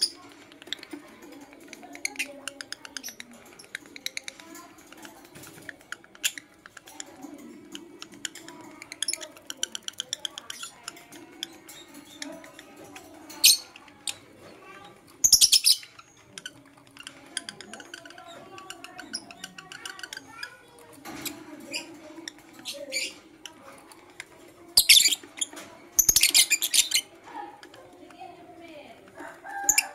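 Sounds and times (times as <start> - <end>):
lovebirds chirping: 0.0 - 29.9.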